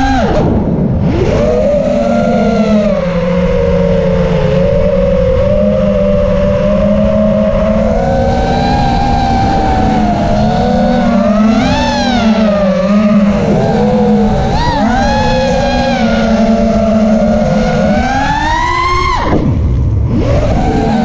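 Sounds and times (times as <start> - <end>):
drone motors whining: 0.0 - 21.0
wind rush: 0.0 - 21.0.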